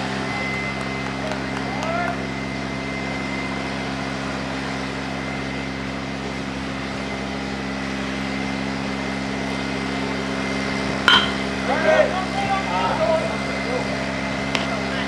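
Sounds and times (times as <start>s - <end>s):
high whine: 0.0s - 15.0s
mechanical hum: 0.0s - 15.0s.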